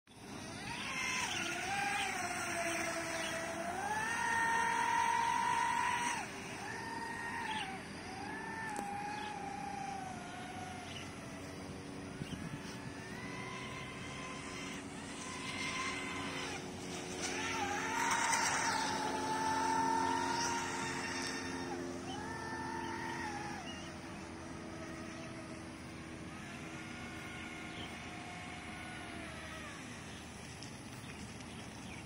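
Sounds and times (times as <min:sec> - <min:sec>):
model boat motor whining: 0:00.1 - 0:32.0.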